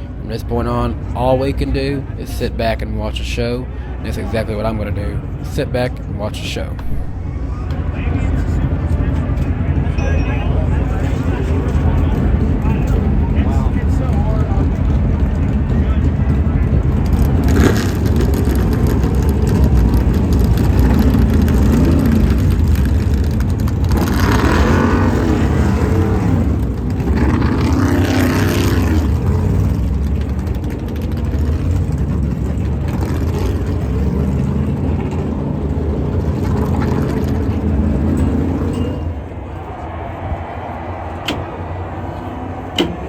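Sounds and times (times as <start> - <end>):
race car engines passing: 0.0 - 43.0.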